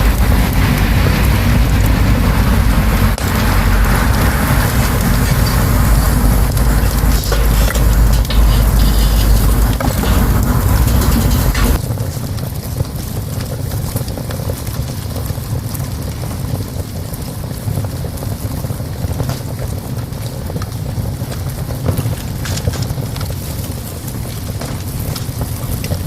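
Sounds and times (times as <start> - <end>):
wood fire crackling in a stove: 0.0 - 26.0.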